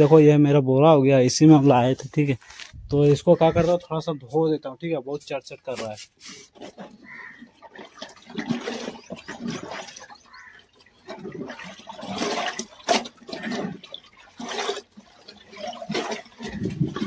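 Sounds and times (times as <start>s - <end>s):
water splashing and sloshing: 1.4s - 17.0s.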